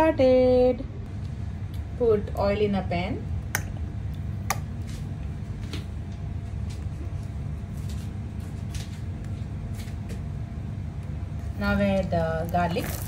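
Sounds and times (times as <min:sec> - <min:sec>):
oil heating low rumble: 0:00.0 - 0:13.0.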